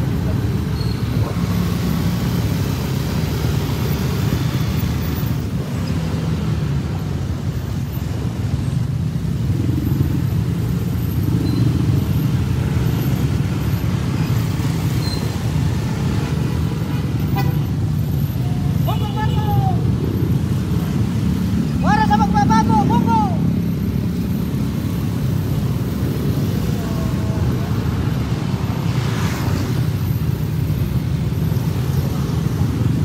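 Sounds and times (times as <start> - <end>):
motorcycle and scooter engines: 0.0 - 33.0.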